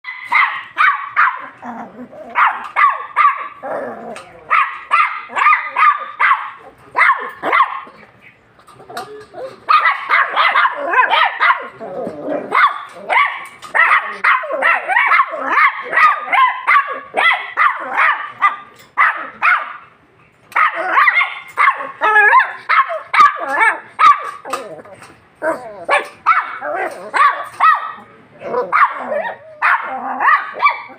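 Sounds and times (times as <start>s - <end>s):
puppy yapping: 0.0s - 1.7s, 2.3s - 19.8s, 20.5s - 24.8s, 25.4s - 30.9s.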